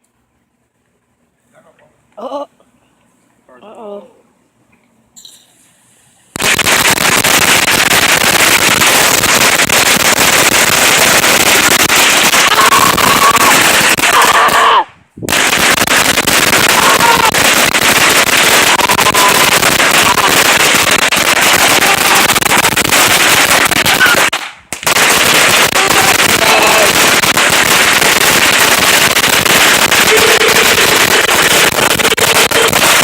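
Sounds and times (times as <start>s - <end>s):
firecrackers crackling: 6.3s - 33.0s.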